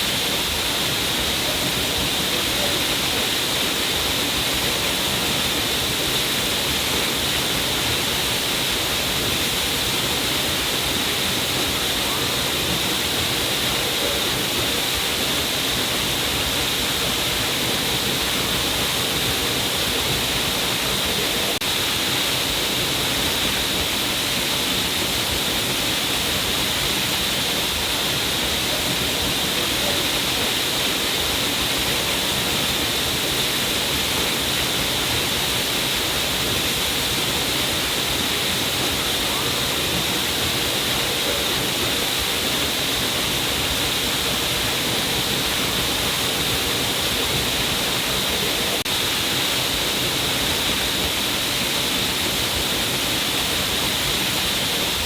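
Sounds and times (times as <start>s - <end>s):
water cascading down rocks: 0.0s - 55.0s.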